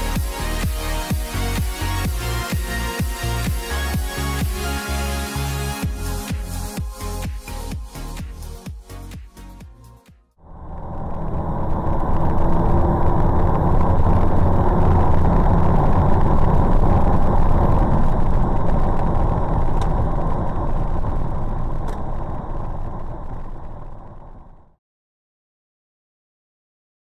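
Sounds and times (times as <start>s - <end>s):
truck engine and road drone: 0.0s - 9.6s, 10.4s - 24.8s.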